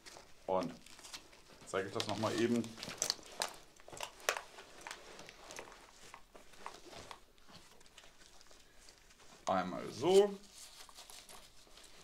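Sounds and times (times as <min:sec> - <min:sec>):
rustling of nylon vest: 0:00.0 - 0:12.0.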